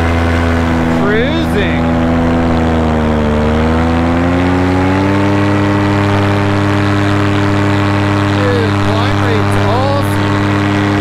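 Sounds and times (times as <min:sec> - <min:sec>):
paramotor engine and propeller: 0:00.0 - 0:11.0.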